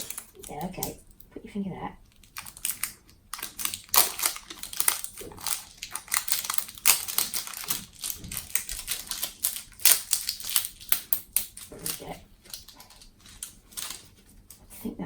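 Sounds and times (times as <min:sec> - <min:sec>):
wrapping crinkling and tearing: 0:00.0 - 0:01.3, 0:02.0 - 0:14.8.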